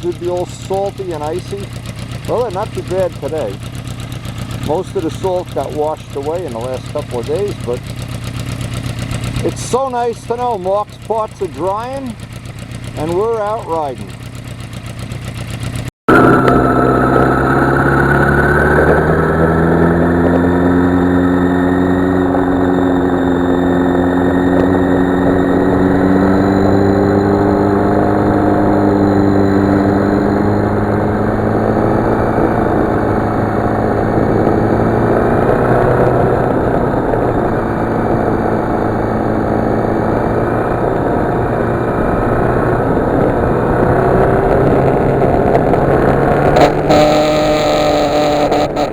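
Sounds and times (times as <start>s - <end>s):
motorcycle engine accelerating: 0.0s - 48.9s
road noise: 0.0s - 48.9s.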